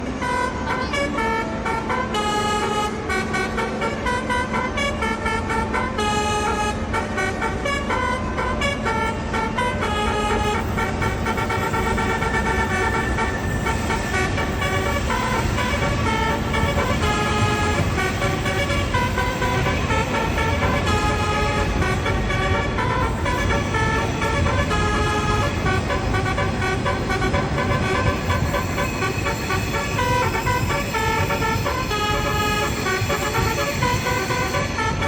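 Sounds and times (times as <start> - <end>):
train horn playing a tune: 0.0 - 35.0.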